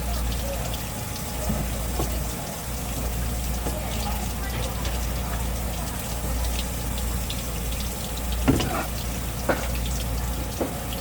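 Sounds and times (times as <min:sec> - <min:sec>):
tap water running: 0:00.0 - 0:11.0.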